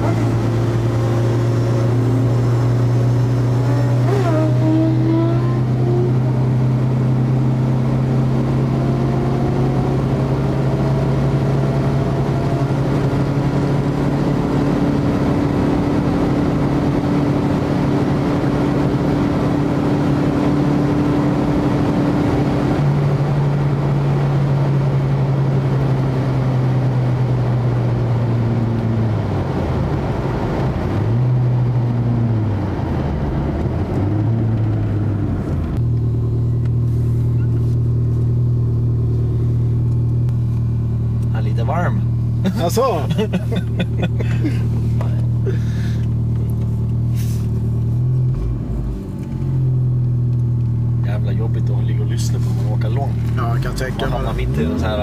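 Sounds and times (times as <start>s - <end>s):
car cabin road and engine drone: 0.0s - 55.0s.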